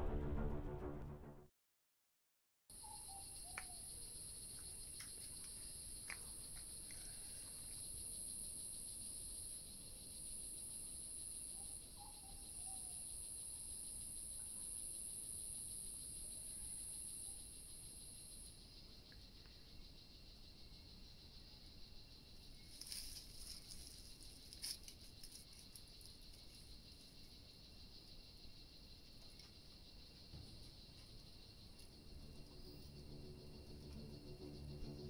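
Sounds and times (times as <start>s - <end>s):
low insect drone: 2.7s - 35.0s.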